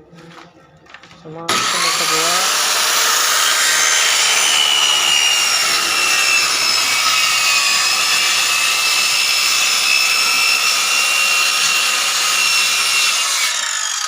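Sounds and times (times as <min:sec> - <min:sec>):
circular saw cutting wood: 0:01.5 - 0:14.0.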